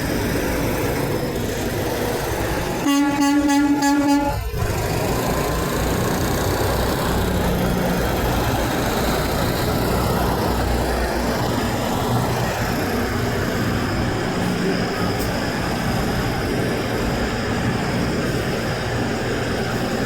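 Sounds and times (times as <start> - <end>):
heavy vehicle road noise: 0.0 - 20.0
truck engine low hum: 0.0 - 20.0.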